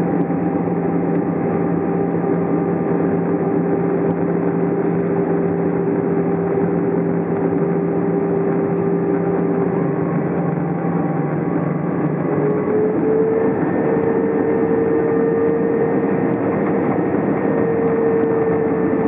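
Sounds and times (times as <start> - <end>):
jet engine drone: 0.0 - 19.0.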